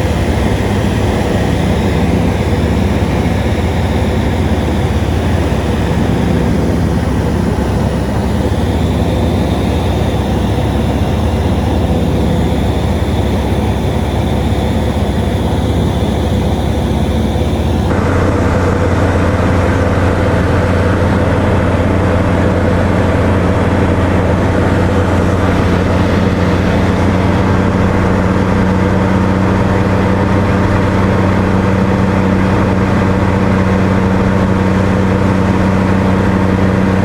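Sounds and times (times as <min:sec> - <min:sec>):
light aircraft engine drone: 0:00.0 - 0:37.0.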